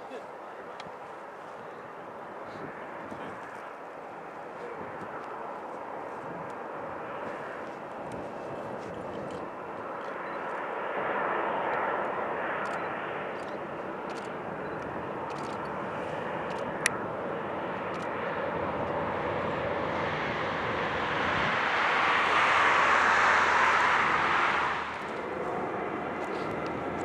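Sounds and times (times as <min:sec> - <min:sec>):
jet engines whining: 0:00.5 - 0:27.0.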